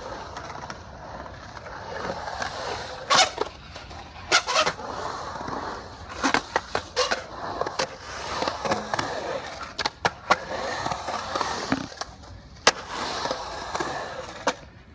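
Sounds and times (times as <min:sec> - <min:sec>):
skateboard clacking on concrete: 0:00.0 - 0:14.9
skateboard wheels rolling on concrete: 0:00.0 - 0:14.9.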